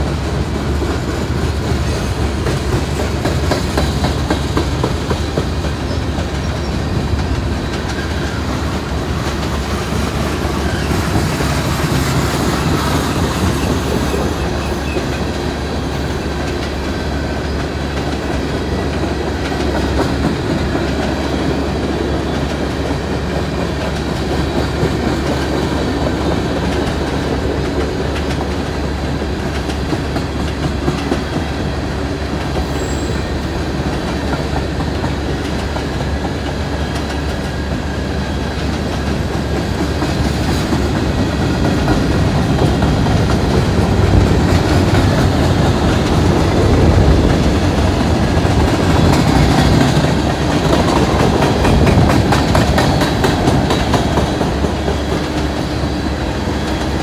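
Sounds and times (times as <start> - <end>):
train wheels clicking on rail joints: 0.0 - 57.0.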